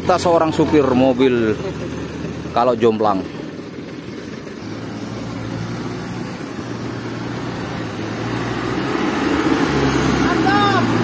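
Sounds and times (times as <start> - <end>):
dump truck engine under load: 0.0 - 11.0.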